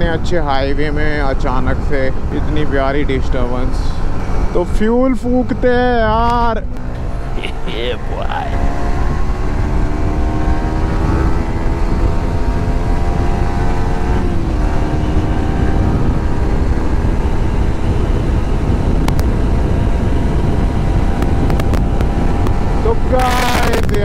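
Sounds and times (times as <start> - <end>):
motorcycle engine hum: 0.0 - 24.0
wind rushing over microphone: 0.0 - 24.0.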